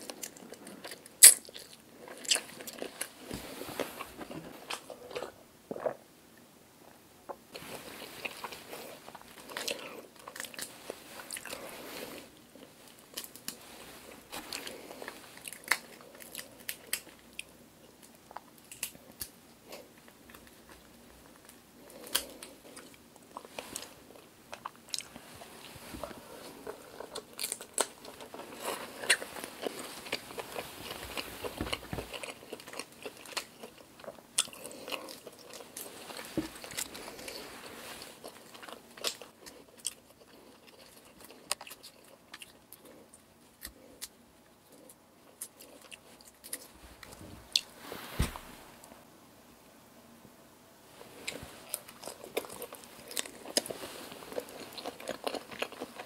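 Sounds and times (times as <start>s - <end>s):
chewing: 7.3s - 47.7s, 51.2s - 56.0s.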